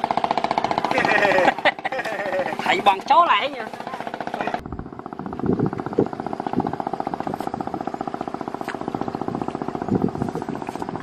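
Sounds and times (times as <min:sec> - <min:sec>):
small engine puttering: 0:00.0 - 0:11.0.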